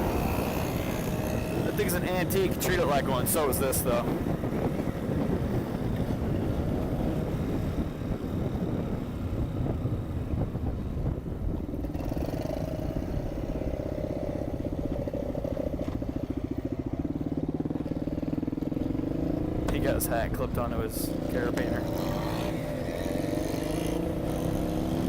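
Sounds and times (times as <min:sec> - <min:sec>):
small off-road engine running: 0:00.0 - 0:25.0.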